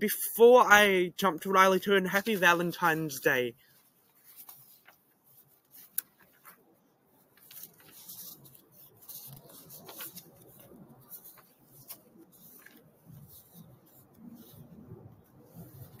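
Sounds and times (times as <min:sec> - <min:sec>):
faint rustling of handling: 0:01.9 - 0:16.0.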